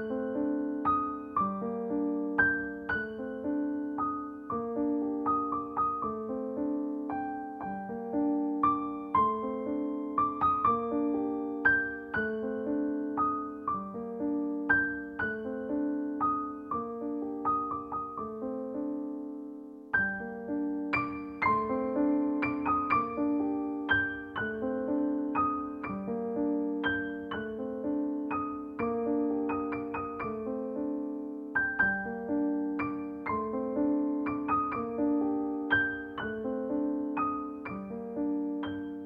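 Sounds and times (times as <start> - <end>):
gentle keyboard melody: 0.0 - 39.0.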